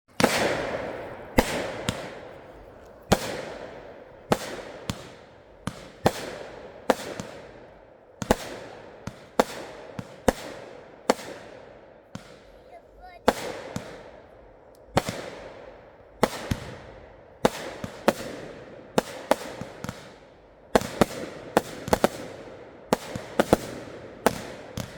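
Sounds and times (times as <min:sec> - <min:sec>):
firework bangs: 0:00.1 - 0:20.2.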